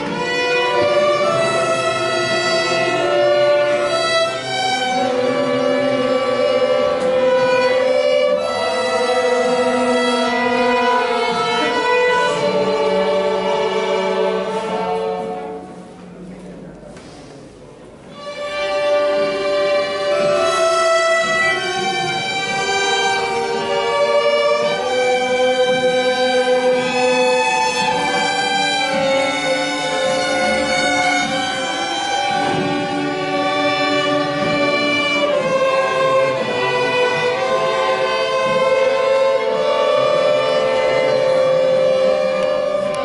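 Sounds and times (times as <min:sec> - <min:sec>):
string orchestra playing: 0:00.0 - 0:16.8, 0:17.4 - 0:43.0.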